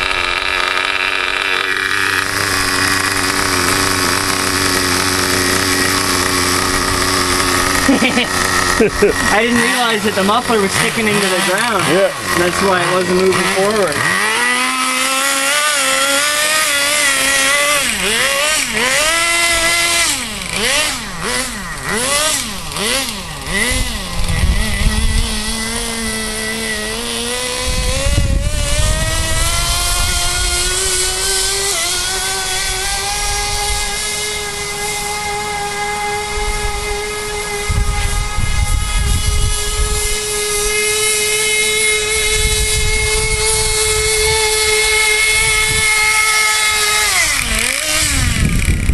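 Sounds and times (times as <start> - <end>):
small glow engine revving and whining: 0.0 - 48.9.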